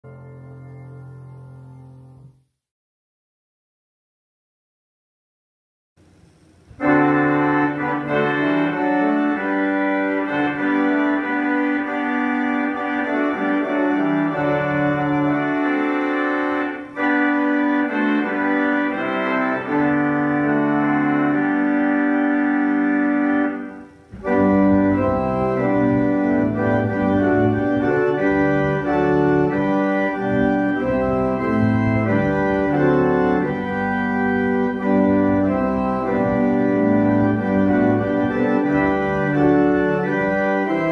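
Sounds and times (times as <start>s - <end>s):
church organ playing hymn: 0.0s - 2.4s, 6.6s - 40.9s
deep organ pedal bass: 0.0s - 2.4s, 6.3s - 40.9s.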